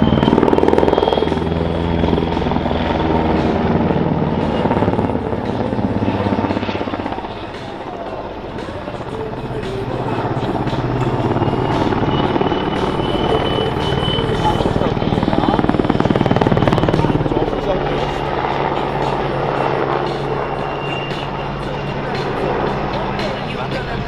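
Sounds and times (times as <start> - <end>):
helicopter rotor and engines: 0.0 - 24.0
high turbine whine: 0.0 - 24.0.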